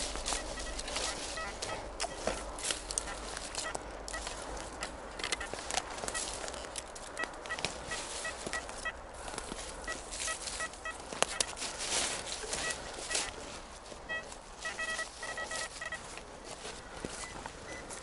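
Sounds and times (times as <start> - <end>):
metal detector beeping: 0.0 - 9.0, 9.8 - 16.2, 17.0 - 18.0
rustling and scraping: 0.0 - 18.0.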